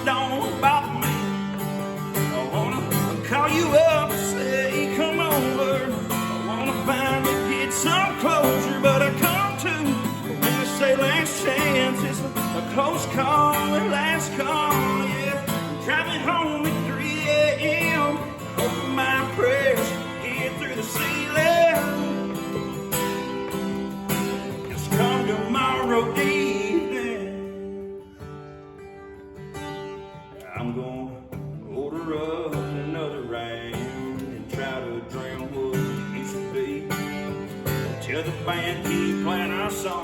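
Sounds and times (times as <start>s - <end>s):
country band playing: 0.0s - 40.0s
guitar melody: 0.0s - 40.0s.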